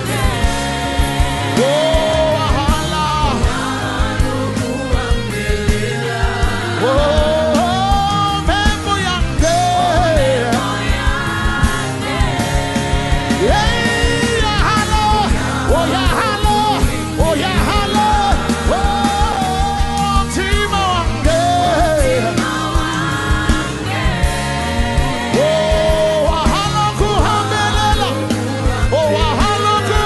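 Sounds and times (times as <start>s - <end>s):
bass: 0.0s - 30.0s
drum beats: 0.0s - 30.0s
person singing with vibrato: 0.0s - 30.0s.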